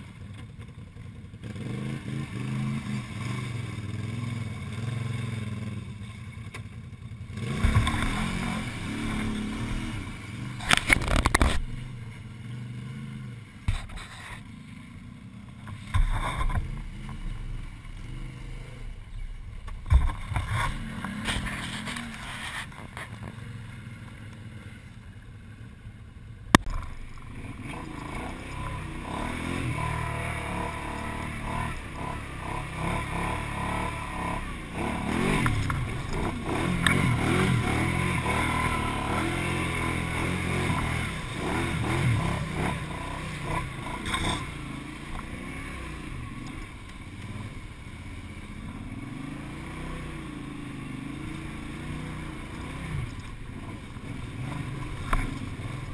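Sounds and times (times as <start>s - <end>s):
quad bike engine revving: 0.0s - 24.8s, 26.5s - 55.9s.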